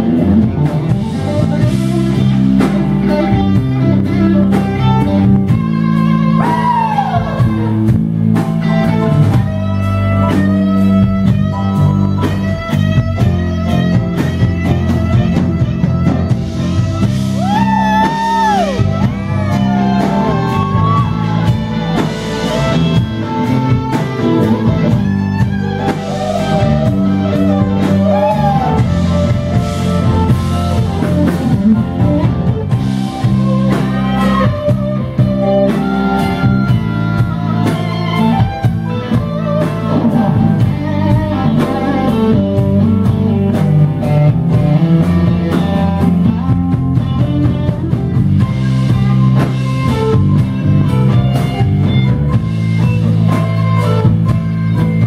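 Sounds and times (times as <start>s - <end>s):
bass: 0.0s - 55.0s
drum kit: 0.0s - 55.0s
electric guitar lead: 0.0s - 55.0s
keyboard chords: 0.0s - 55.0s.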